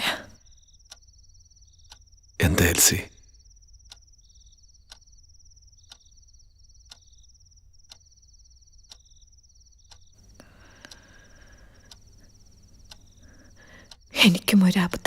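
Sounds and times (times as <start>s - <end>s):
crickets chirping: 0.0s - 15.0s
faint clock ticking: 0.1s - 15.0s.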